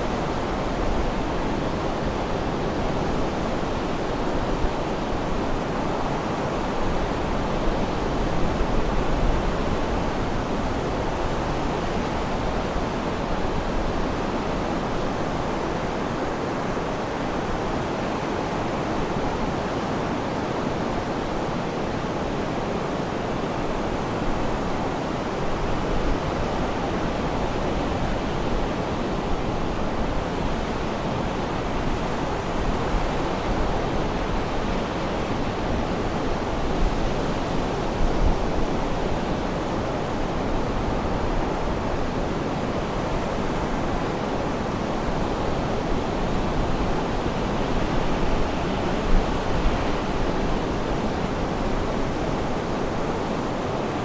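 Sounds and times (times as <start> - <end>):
sea surf washing on shore: 0.0 - 54.0.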